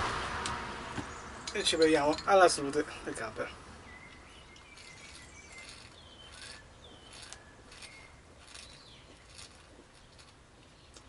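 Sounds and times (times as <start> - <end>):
faint birds chirping: 0.9 - 11.0.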